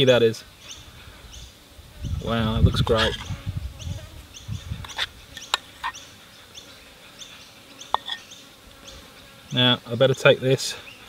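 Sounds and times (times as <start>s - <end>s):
birds chirping: 0.0s - 11.0s
flies buzzing faintly: 0.0s - 11.0s.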